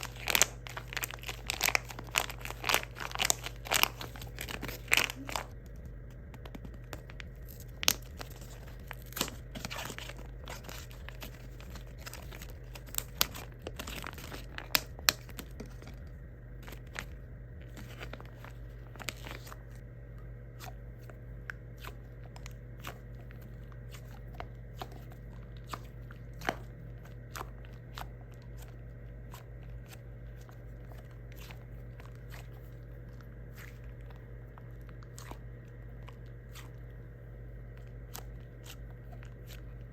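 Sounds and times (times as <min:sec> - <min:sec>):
squishy toys crinkling: 0:00.0 - 0:05.6, 0:06.4 - 0:19.8, 0:21.8 - 0:36.9
steady low hum: 0:00.0 - 0:39.9.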